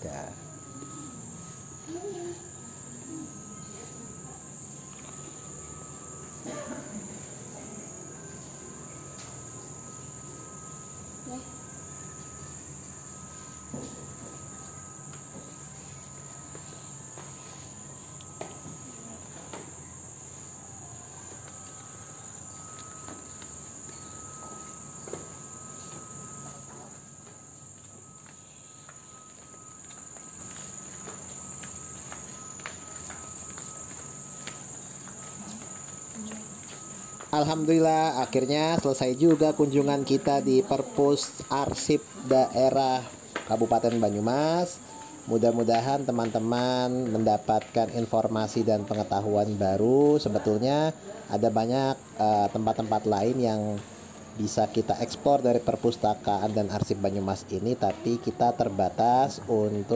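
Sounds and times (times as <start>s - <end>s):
high-pitched whine: 0.0s - 59.9s.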